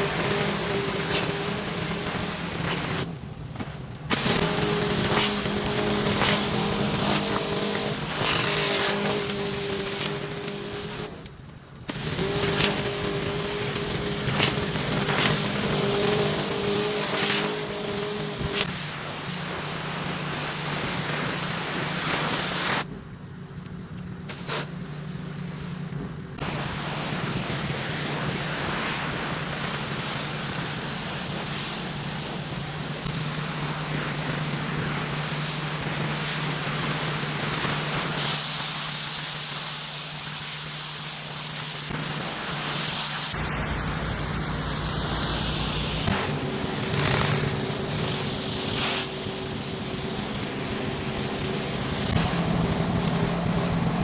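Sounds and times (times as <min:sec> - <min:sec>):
water jet hissing: 0:00.0 - 0:11.3, 0:11.9 - 0:22.9, 0:24.3 - 0:54.0
pressure washer engine drone: 0:00.0 - 0:54.0.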